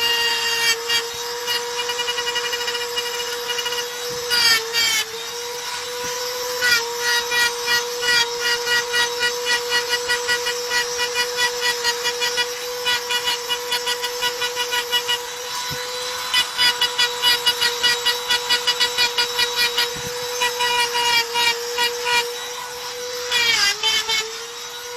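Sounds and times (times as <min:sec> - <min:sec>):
electric drill whining: 0:00.0 - 0:24.9.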